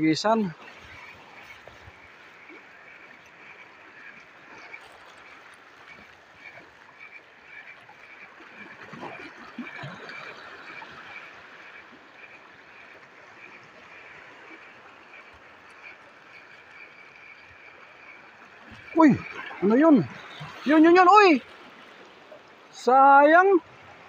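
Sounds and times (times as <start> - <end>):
water lapping: 0.0 - 24.0
wind: 0.0 - 24.0.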